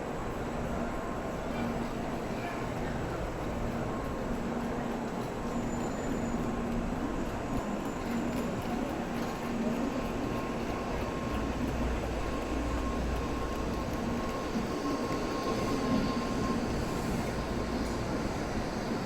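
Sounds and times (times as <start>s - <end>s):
faint train whine: 0.0s - 19.0s
train rumbling: 0.0s - 19.0s.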